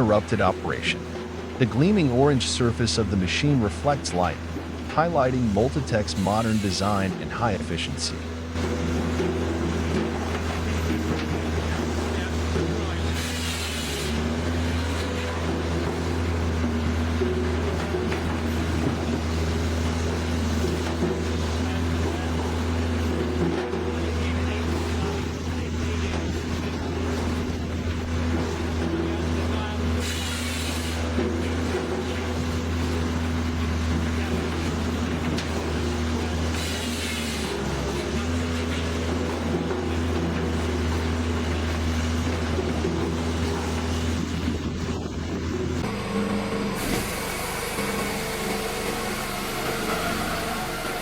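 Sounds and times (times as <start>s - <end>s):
engine and hydraulics humming: 0.0s - 51.0s.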